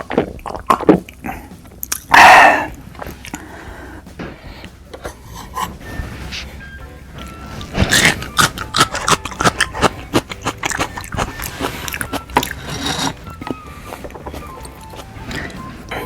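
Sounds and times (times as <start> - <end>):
chewing crunchy food: 0.0 - 5.8, 7.2 - 16.0.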